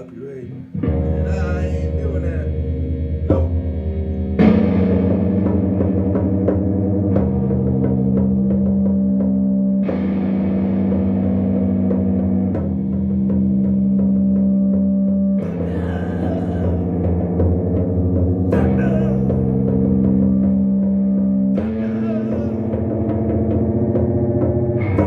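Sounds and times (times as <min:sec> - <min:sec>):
held chords: 0:00.0 - 0:25.0
low bass: 0:00.5 - 0:25.0.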